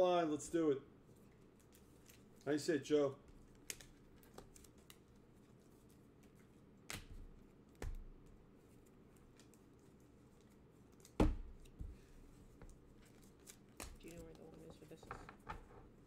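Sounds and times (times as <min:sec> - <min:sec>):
trading cards being handled: 0:01.0 - 0:02.6, 0:03.2 - 0:16.0.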